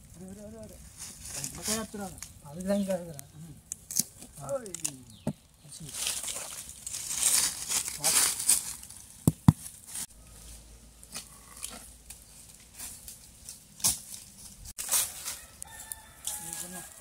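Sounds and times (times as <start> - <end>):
footsteps crunching dry leaves: 0.0 - 3.1, 5.7 - 17.0.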